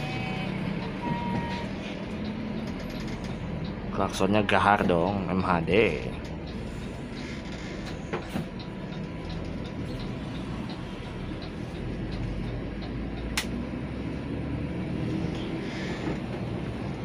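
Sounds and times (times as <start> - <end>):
bus diesel engine rumble: 0.0 - 17.0
road noise: 0.0 - 17.0.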